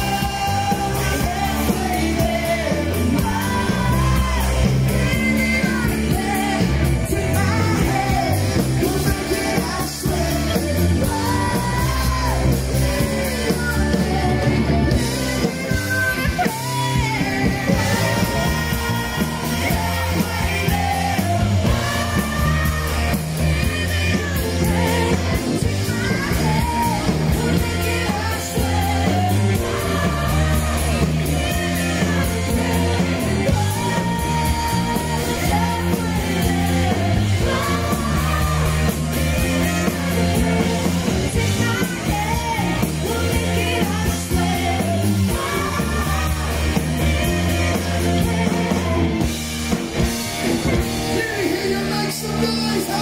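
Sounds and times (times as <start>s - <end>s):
person singing: 0.0s - 49.3s
rock band playing live: 0.0s - 53.0s.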